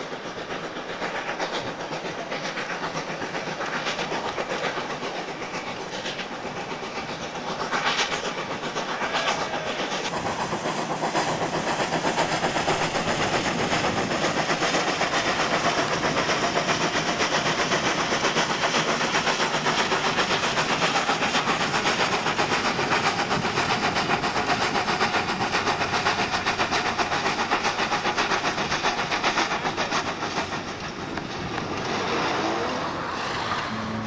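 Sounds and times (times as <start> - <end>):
steam locomotive exhaust chuffs: 0.0 - 34.0
train clatter: 0.0 - 34.0.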